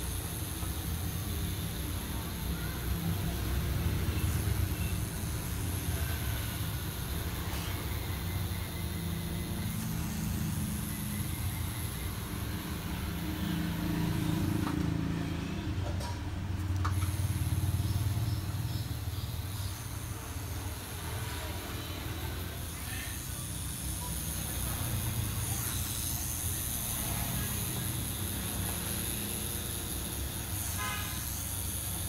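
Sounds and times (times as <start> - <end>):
tattoo machine buzzing: 0.0 - 15.8, 16.4 - 32.0.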